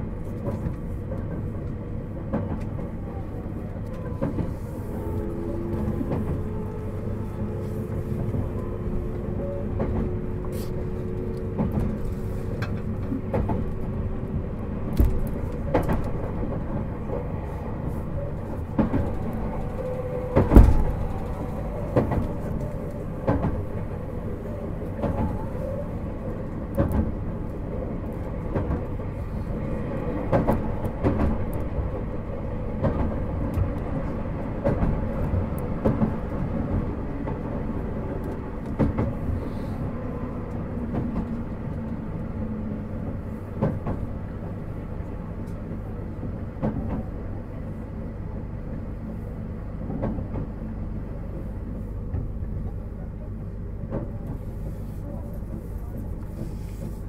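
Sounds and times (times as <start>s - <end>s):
clunks over train track: 0.0s - 47.8s, 49.8s - 57.0s
train wheels rumbling on rail: 0.0s - 57.0s.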